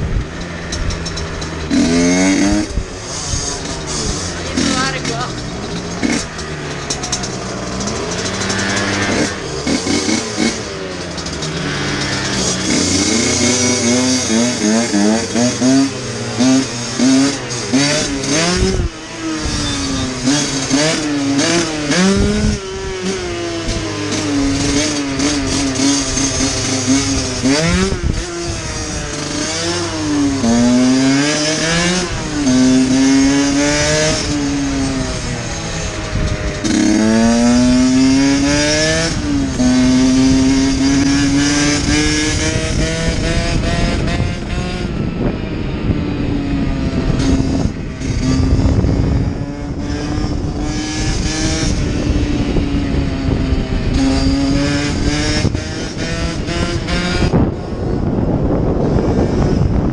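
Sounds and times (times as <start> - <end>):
dirt bike engine revving: 0.0 - 59.9
wind noise: 0.0 - 59.9.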